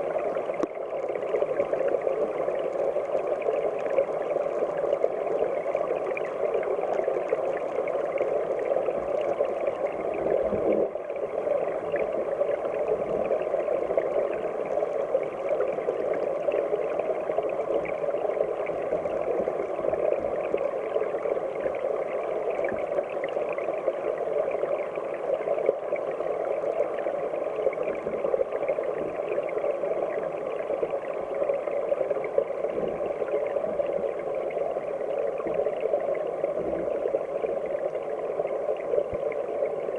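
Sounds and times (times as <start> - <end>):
stream heard underwater: 0.0 - 39.9.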